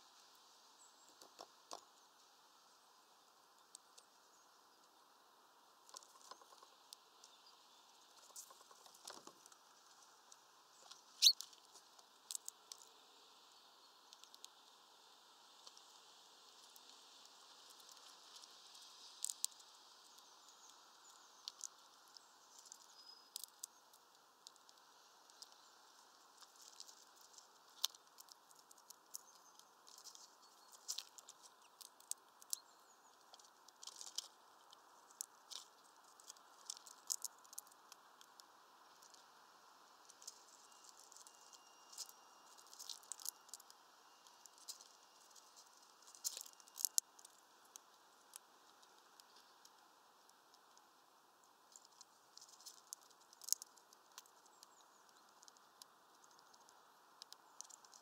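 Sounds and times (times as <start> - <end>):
faint steady hiss: 0.0 - 58.0
squirrel cracking and chewing seeds: 0.2 - 58.0.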